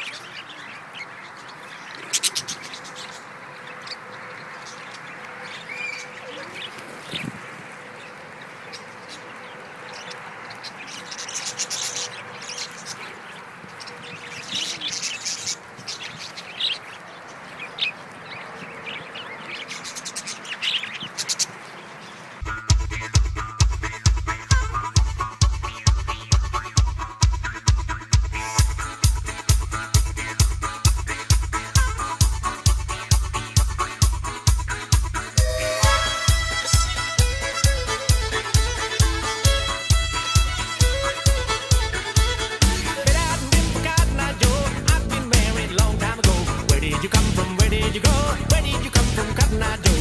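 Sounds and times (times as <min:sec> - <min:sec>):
budgerigars chirping: 0:00.0 - 0:44.6.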